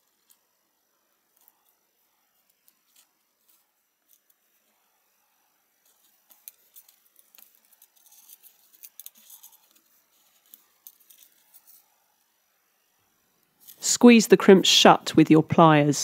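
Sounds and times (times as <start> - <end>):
faint ticks and clicks of handwork: 0.0 - 13.8.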